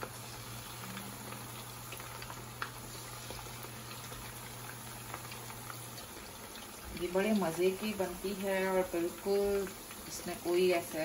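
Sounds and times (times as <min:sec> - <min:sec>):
chicken deep-frying in oil: 0:00.0 - 0:11.0
oil crackling and popping: 0:00.0 - 0:11.0.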